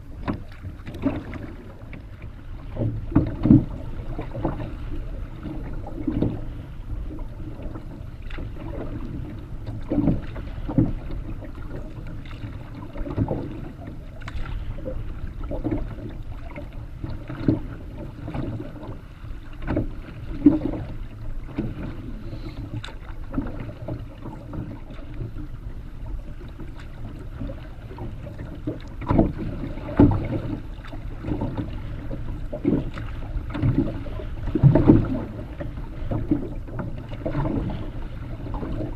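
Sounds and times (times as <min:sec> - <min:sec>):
paddle splashing: 0:00.0 - 0:38.9
waves slapping against canoe hull: 0:00.0 - 0:38.9
wind rumble on microphone: 0:00.0 - 0:38.9.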